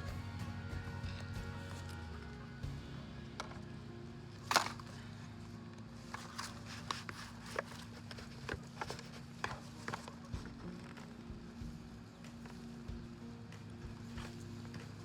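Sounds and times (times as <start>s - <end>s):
hands working through potting soil: 0.0s - 2.8s, 3.4s - 15.0s.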